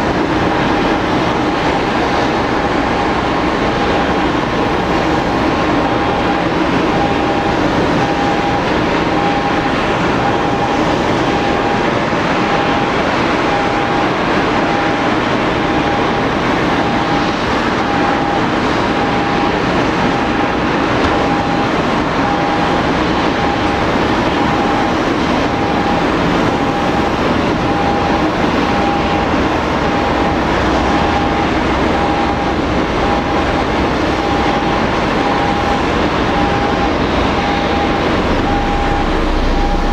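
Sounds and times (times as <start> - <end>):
airliner being towed: 0.0 - 39.9
short beeps: 4.8 - 16.1, 17.8 - 39.9.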